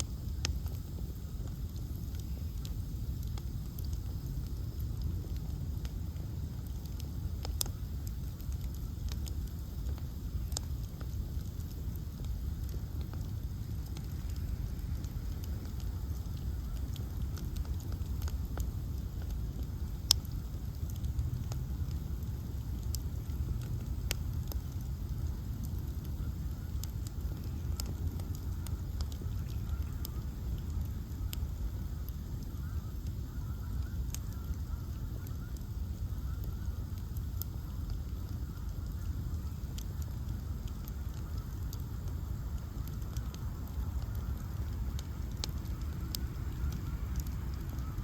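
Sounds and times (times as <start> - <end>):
bonfire flames rumbling: 0.0 - 48.0
fire crackling and popping: 0.0 - 48.0.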